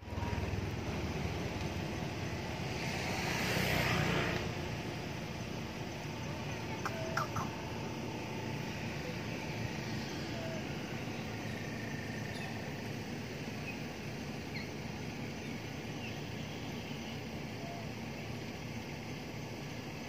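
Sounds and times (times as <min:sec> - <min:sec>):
outdoor hiss and rumble: 0:00.0 - 0:20.0.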